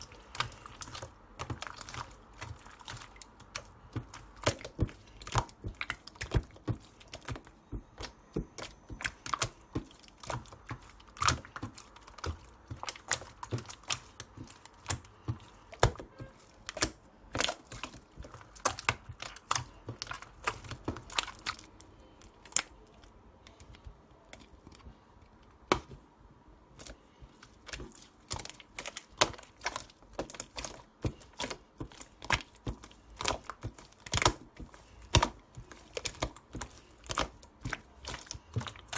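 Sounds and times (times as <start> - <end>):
slime squishing and popping: 0.0 - 24.8, 26.8 - 38.9.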